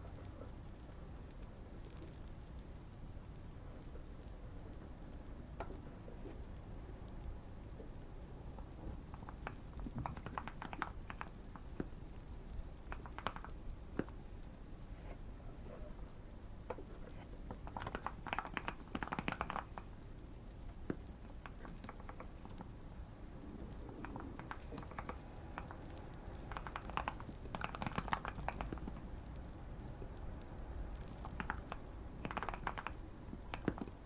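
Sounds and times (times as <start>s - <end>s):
light fire crackling: 0.0s - 34.0s.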